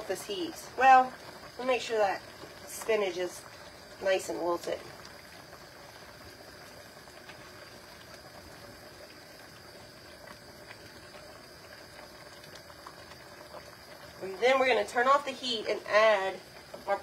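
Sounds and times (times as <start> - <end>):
soup simmering in a pot: 0.0 - 17.0.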